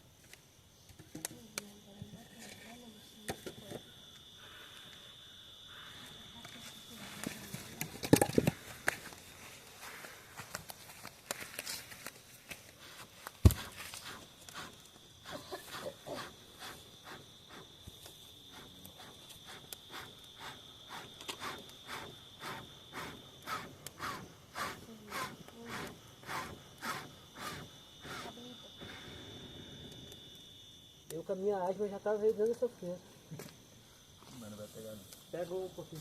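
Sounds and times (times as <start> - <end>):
crickets trilling: 0.0 - 36.0.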